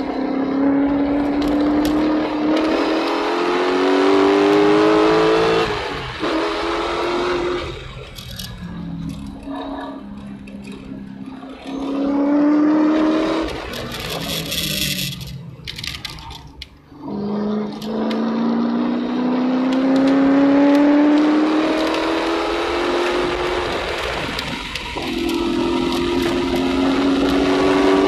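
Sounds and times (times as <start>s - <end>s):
car engine under hard throttle: 0.0s - 28.0s.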